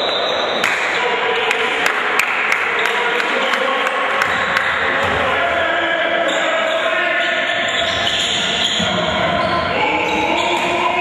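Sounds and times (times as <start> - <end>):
basketball gym background noise: 0.0 - 11.0.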